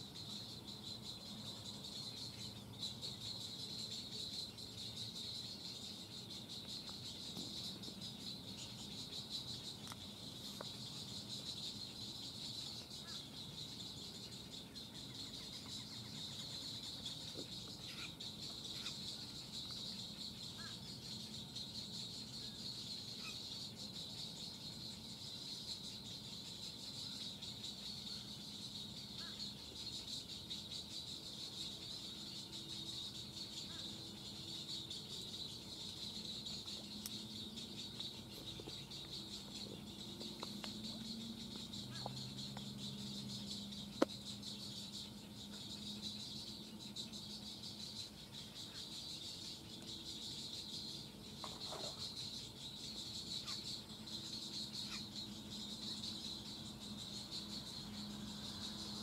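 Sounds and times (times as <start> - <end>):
faint bird chirps: 0.0 - 59.0
insects chirping: 0.0 - 59.0.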